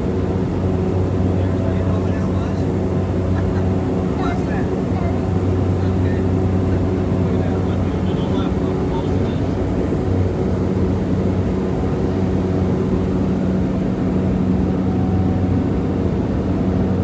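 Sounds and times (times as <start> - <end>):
propeller airplane engine drone: 0.0 - 17.0.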